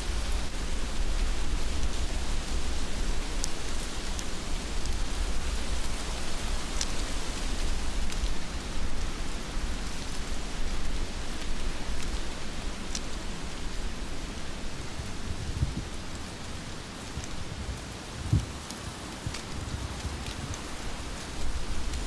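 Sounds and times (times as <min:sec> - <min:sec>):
heavy rain hissing: 0:00.0 - 0:22.0
sharp ticks of raindrops: 0:00.0 - 0:22.0.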